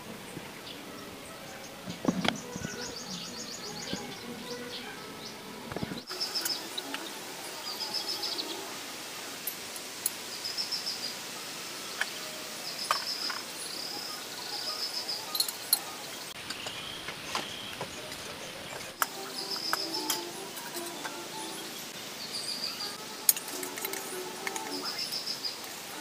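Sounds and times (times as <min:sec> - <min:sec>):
birds chirping in trills: 0:00.0 - 0:26.0
steady background noise: 0:00.0 - 0:26.0.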